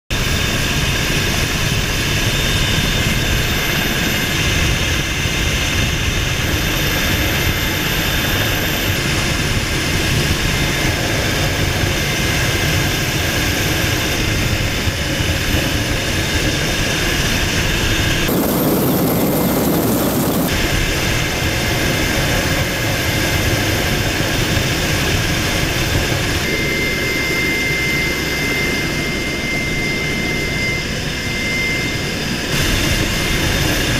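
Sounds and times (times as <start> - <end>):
helicopter rotor rumble: 0.1 - 33.9
high turbine whine: 0.1 - 33.9.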